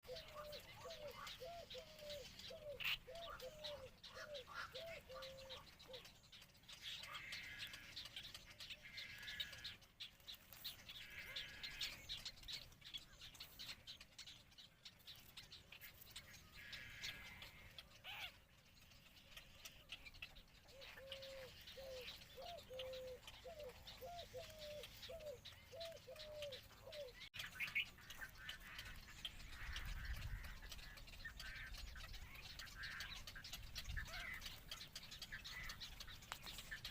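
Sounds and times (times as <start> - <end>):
higher chattering of chicks: 0.0 - 36.9.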